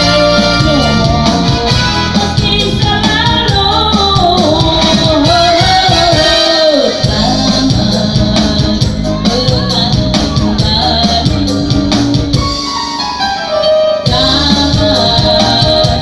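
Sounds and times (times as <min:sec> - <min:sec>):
keyboard music with beat: 0:00.0 - 0:16.0.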